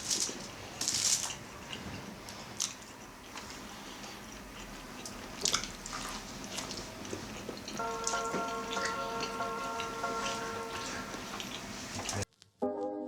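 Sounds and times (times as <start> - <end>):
people chewing food: 0.0 - 12.4.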